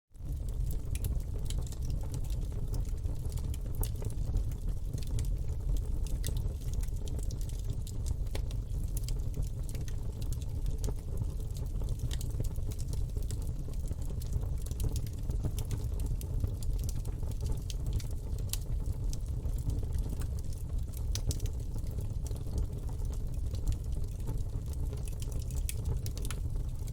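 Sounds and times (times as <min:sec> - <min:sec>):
low fire rumble: 0:00.2 - 0:26.9
wood crackling and popping: 0:00.2 - 0:26.9.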